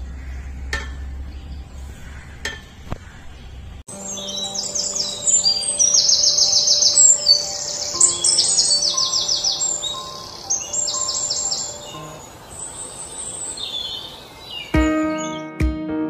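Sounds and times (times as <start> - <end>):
faint music: 0.0 - 13.2
birds chirping in trills: 0.0 - 15.6.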